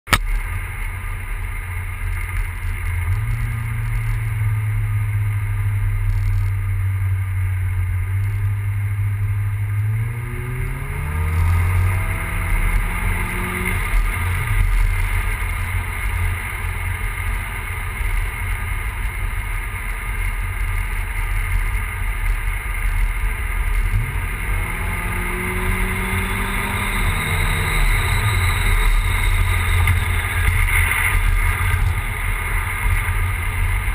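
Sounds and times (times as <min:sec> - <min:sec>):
misfiring car engine revving: 0:00.1 - 0:18.9, 0:22.6 - 0:33.9.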